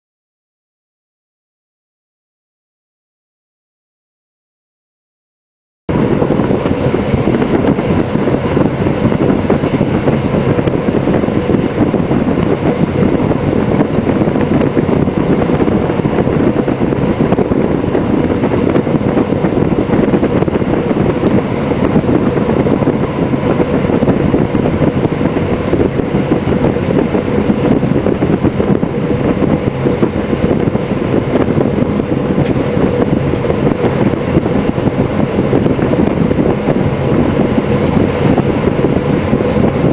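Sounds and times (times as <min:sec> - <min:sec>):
diesel train running at speed: 0:05.9 - 0:39.9.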